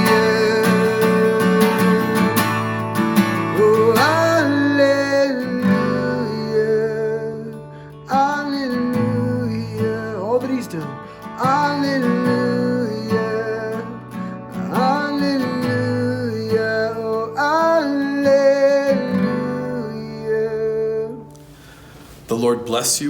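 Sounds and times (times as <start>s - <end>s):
slow acoustic guitar music: 0.0s - 22.5s.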